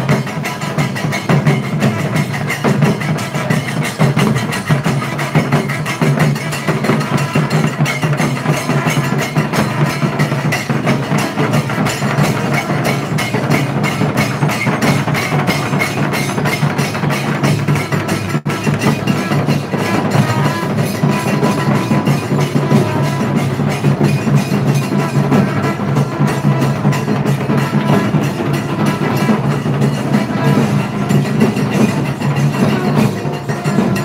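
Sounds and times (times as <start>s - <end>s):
drums beaten fast: 0.0s - 34.0s.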